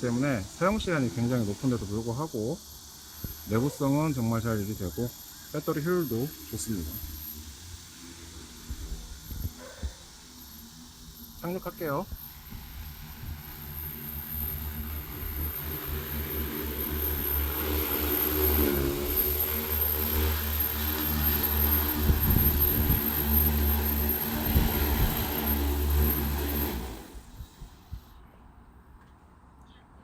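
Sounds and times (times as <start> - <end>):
drone propellers whirring: 0.0 - 28.3.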